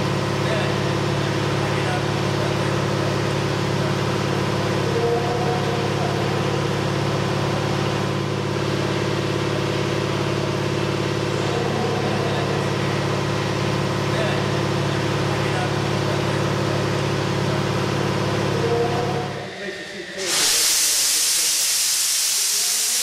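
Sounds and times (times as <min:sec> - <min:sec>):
steady mechanical drone: 0:00.0 - 0:23.0.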